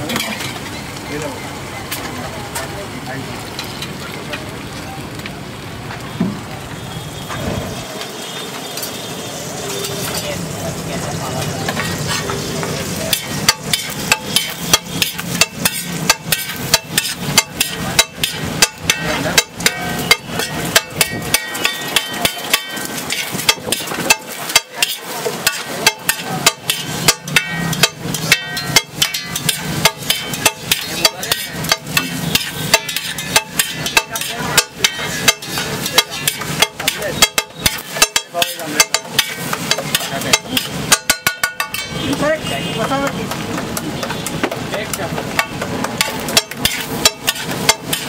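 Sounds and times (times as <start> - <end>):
metal spatula clanking on griddle: 0.0 - 1.0, 8.0 - 10.4, 11.4 - 48.0.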